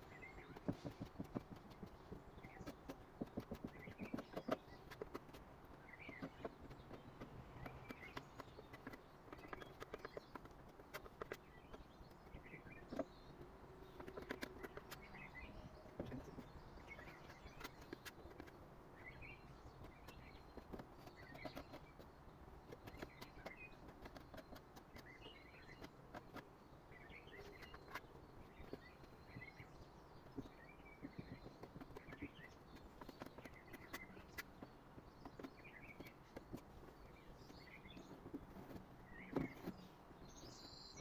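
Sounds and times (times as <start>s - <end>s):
faint bird chirps: 0.0s - 41.0s.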